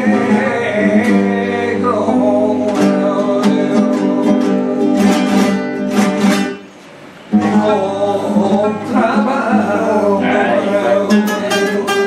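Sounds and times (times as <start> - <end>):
person singing: 0.0 - 6.6, 7.3 - 12.0
flamenco guitar playing: 0.0 - 12.0.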